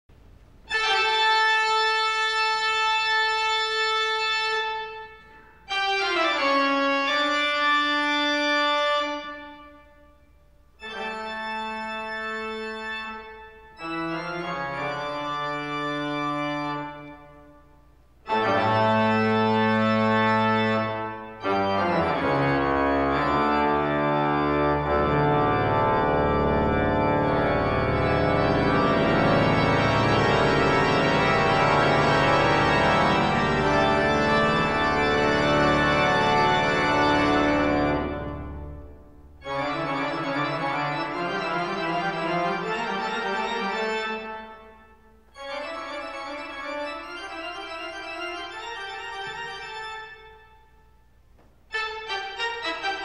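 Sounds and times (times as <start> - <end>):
organ music: 0.2 - 53.0.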